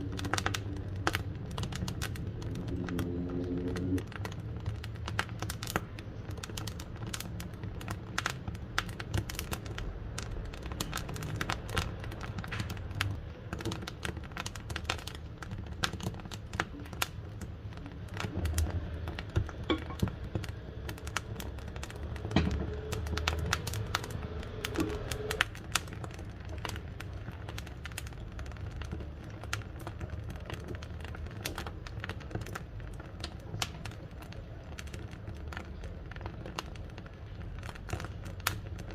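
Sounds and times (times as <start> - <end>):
low rush of flame: 0.0 - 38.9
wood fire crackling and popping: 0.0 - 38.9.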